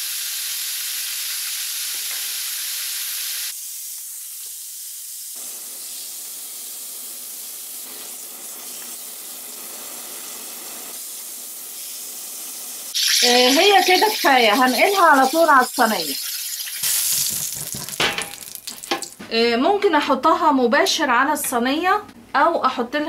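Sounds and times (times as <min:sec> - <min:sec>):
meat sizzling in oil: 0:00.0 - 0:19.2.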